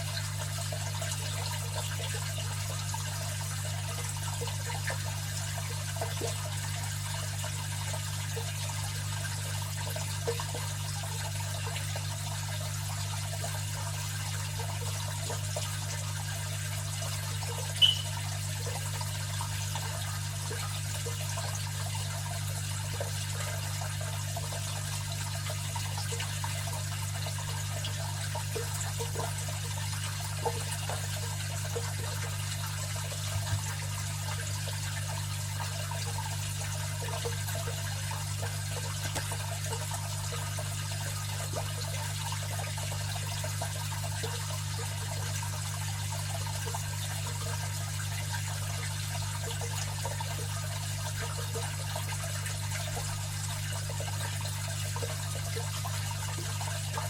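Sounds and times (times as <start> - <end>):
water trickling and bubbling: 0.0 - 57.0.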